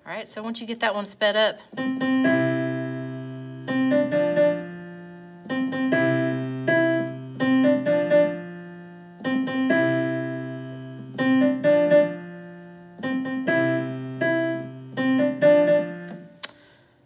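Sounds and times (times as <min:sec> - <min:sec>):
piano keyboard playing: 0:01.7 - 0:16.4.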